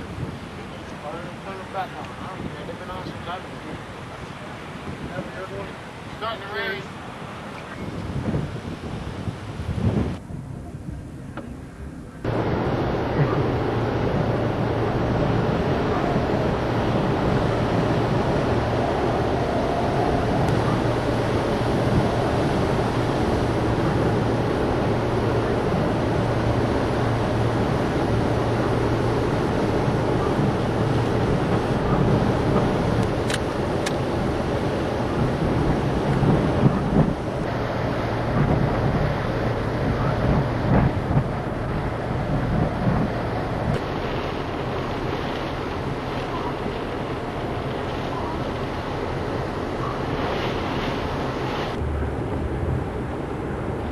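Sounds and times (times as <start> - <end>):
strong wind roaring on microphone: 0.0 - 53.9.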